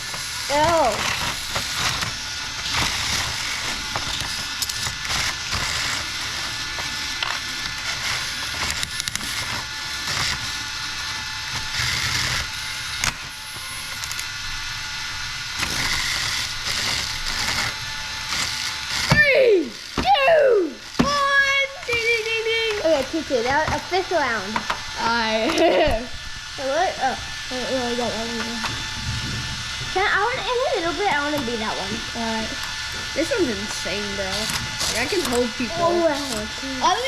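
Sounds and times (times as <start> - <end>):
small electric motors whirring: 0.0 - 37.0.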